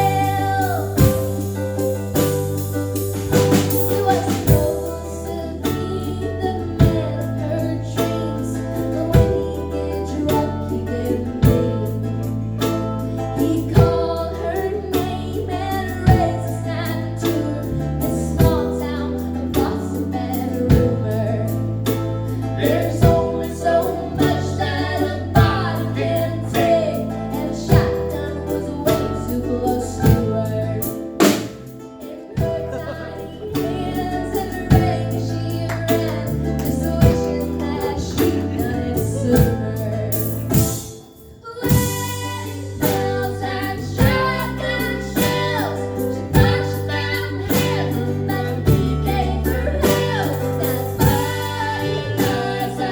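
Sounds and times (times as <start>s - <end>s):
female lead vocal: 0.0s - 1.9s, 3.5s - 12.3s, 13.1s - 52.9s
live band music: 0.0s - 52.9s
sustained bass notes: 0.0s - 52.9s.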